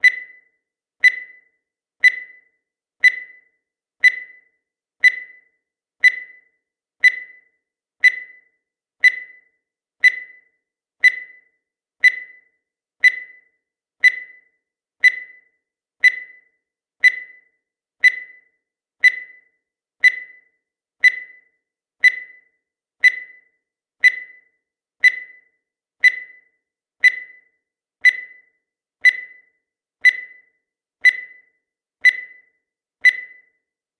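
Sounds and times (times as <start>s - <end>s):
short high timer beeps: 0.0s - 25.4s, 26.0s - 33.6s.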